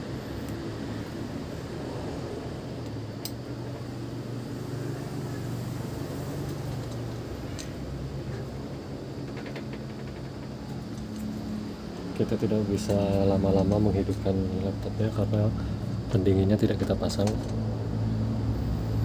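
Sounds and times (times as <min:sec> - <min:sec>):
traffic engines rumbling: 0:00.0 - 0:19.0.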